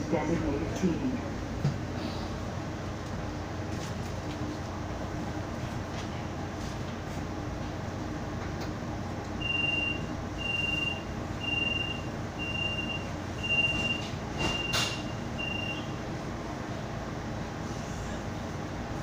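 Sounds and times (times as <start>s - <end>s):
streetcar humming: 0.0s - 19.0s.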